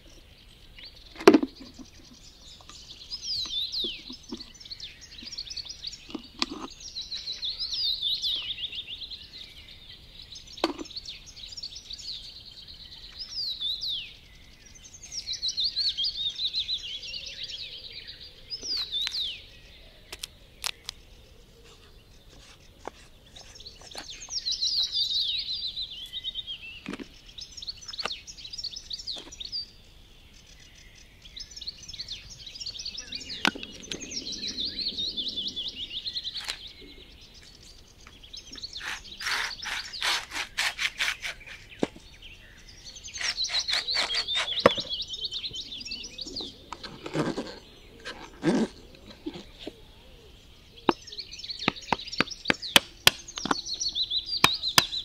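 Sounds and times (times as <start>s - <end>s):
songbirds warbling: 0.0s - 55.0s.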